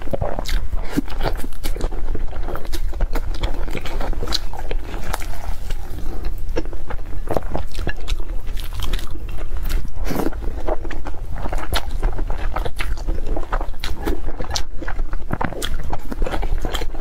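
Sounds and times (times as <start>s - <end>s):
person chewing and biting: 0.0s - 17.0s
steady low hum: 0.0s - 17.0s.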